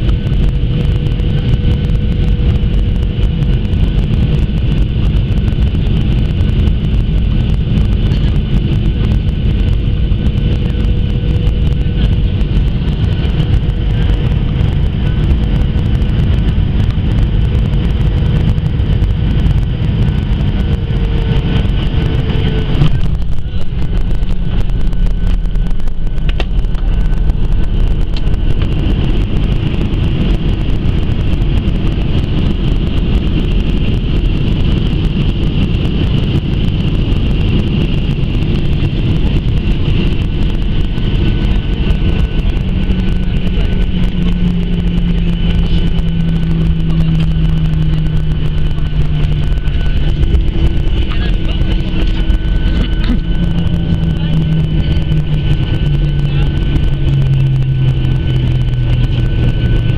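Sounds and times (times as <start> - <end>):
jet engine rumble and whine: 0.0 - 59.9
low hum falling in pitch: 0.0 - 59.9.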